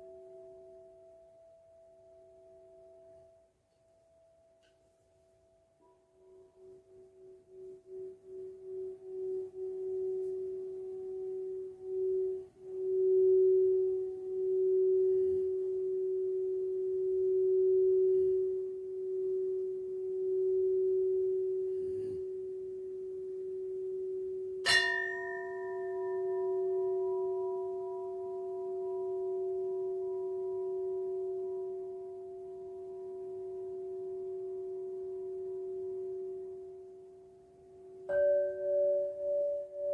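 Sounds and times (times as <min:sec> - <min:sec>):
singing bowl steady tone: 0:00.0 - 0:39.9.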